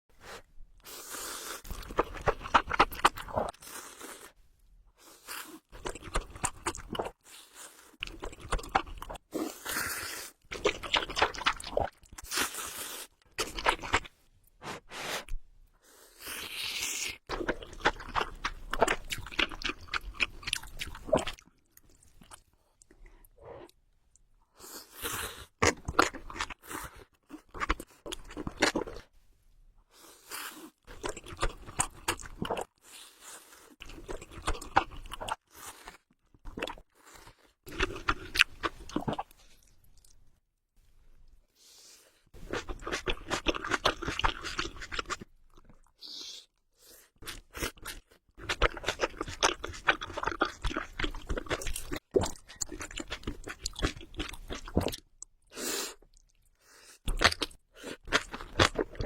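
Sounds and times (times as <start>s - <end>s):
person chewing and crunching: 1.1s - 4.3s, 5.1s - 14.1s, 16.4s - 23.0s, 25.5s - 29.1s, 30.4s - 40.3s, 42.4s - 45.9s, 47.2s - 59.0s.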